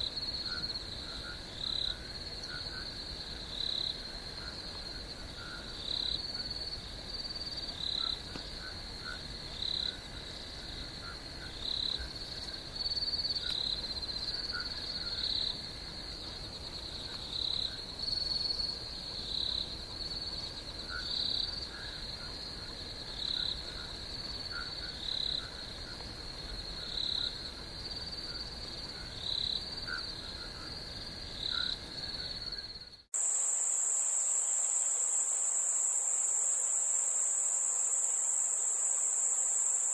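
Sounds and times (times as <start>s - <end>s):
crickets trilling: 0.0s - 39.9s
high-pitched insect trill: 0.0s - 39.9s
short cricket calls: 0.0s - 39.9s.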